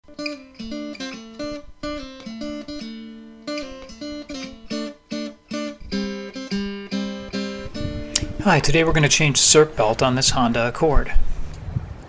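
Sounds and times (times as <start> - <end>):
acoustic guitar plucked melody: 0.0 - 11.5.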